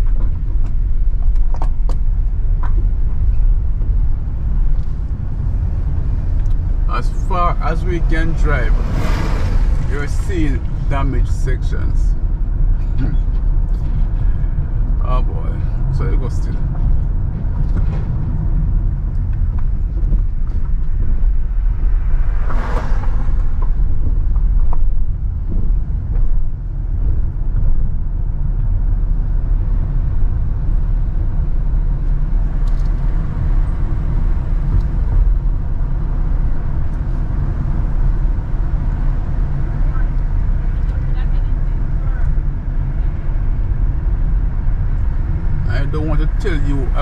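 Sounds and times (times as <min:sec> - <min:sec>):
car driving on rough road: 0:00.0 - 0:47.0.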